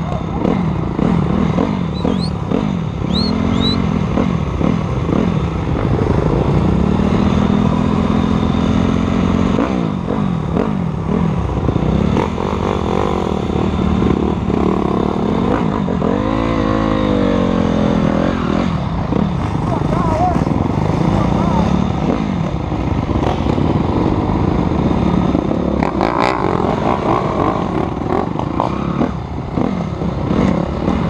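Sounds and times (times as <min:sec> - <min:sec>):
dirt bike engine revving: 0:00.3 - 0:31.0.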